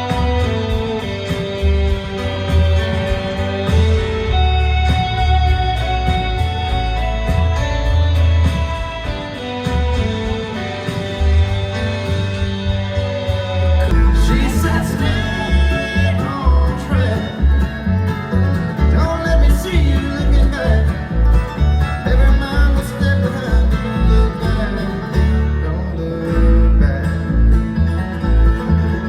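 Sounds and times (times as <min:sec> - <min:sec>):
country band playing: 0:00.0 - 0:29.0
guitar: 0:00.0 - 0:29.0
steady bass beat: 0:00.0 - 0:29.0.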